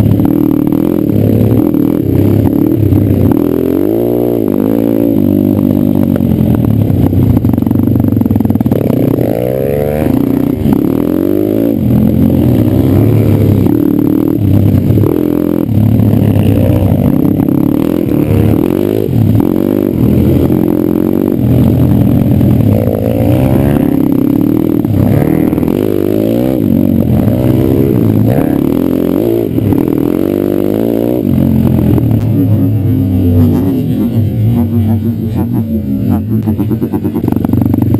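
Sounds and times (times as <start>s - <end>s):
pit bike engine revving: 0.0s - 37.9s.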